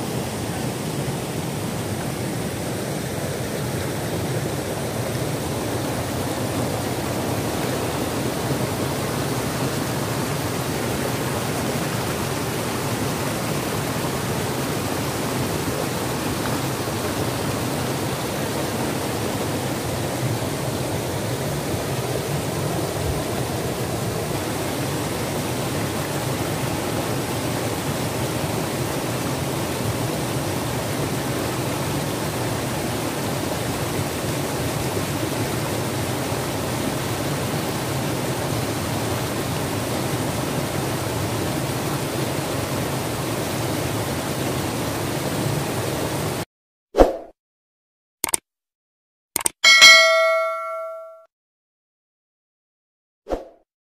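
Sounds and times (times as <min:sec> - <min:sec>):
stream rushing over boulders: 0:00.0 - 0:46.4.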